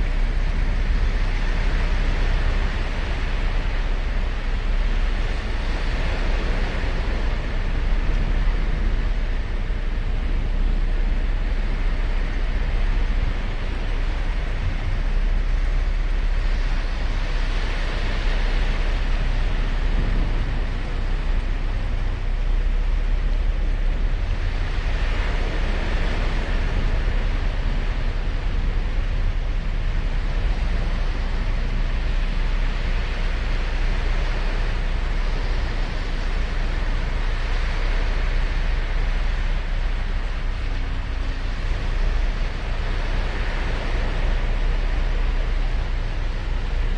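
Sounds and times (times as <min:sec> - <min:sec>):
low rumble: 0:00.0 - 0:46.9
waves breaking on beach: 0:00.0 - 0:46.9.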